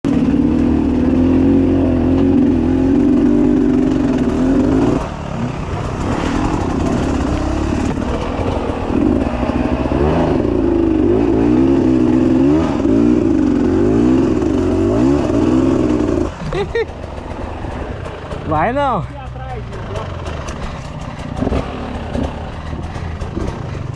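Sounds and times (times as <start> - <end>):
motorcycle engine revving: 0.1 - 23.9.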